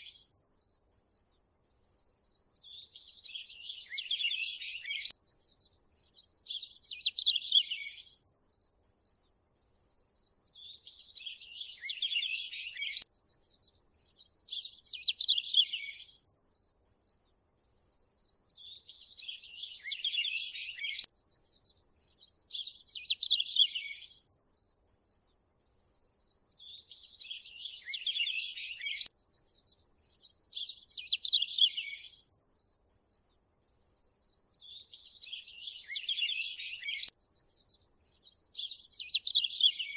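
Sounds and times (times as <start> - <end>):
high insect-like hiss: 0.0 - 39.9.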